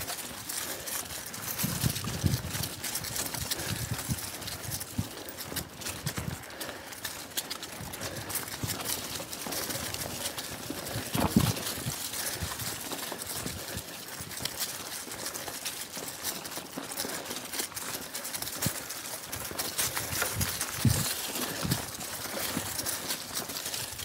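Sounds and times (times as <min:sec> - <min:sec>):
bike tyres rolling over dry leaves: 0:00.0 - 0:24.0.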